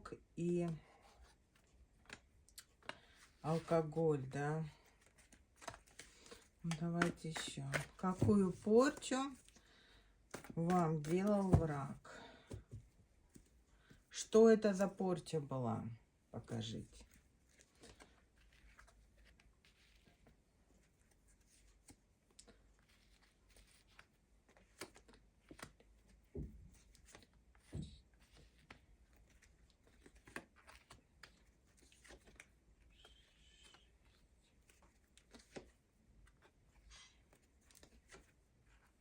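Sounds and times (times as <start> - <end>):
cards shuffling and tapping: 0.7 - 9.6, 10.2 - 14.0, 17.0 - 39.0.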